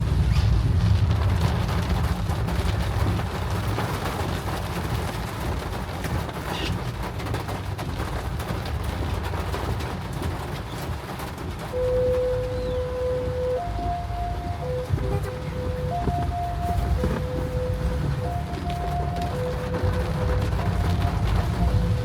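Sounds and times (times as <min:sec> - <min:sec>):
car rumble on wet road: 0:00.0 - 0:22.0
heavy rain pattering on car: 0:00.0 - 0:22.0.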